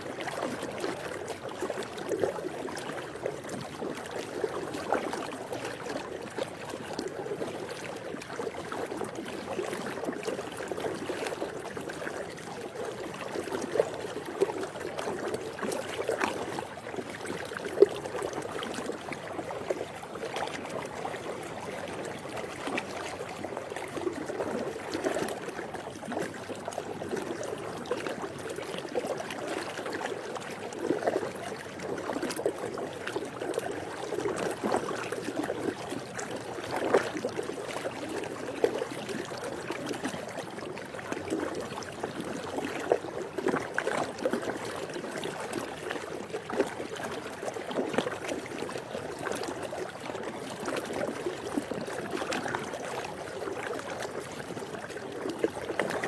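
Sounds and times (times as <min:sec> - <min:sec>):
pool water lapping and splashing: 0:00.0 - 0:56.0.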